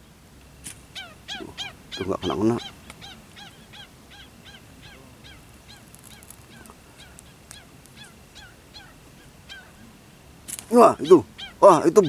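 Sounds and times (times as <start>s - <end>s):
bird yelping alarm calls: 0.9s - 9.9s, 10.8s - 12.0s.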